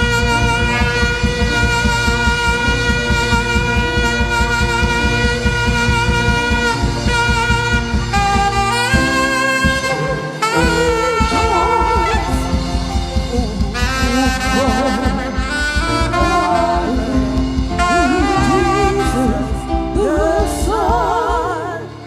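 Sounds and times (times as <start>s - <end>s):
saxophone lead playing long notes: 0.0s - 22.0s
steady drum beat: 0.0s - 22.0s.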